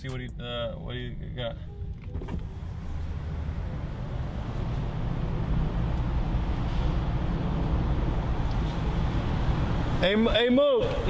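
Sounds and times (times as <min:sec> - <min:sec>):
road noise inside moving car: 0:00.0 - 0:11.0.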